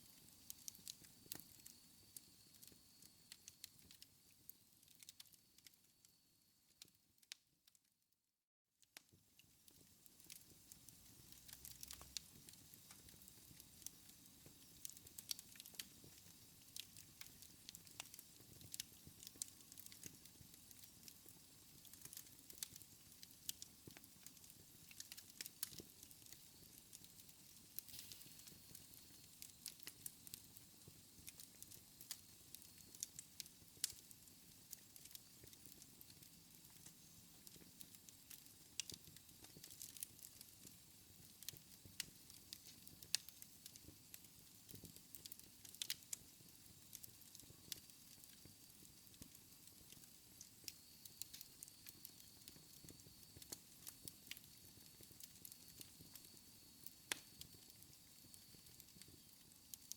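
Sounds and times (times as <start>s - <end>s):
wood fire crackling: 0.0s - 6.1s, 8.9s - 59.9s.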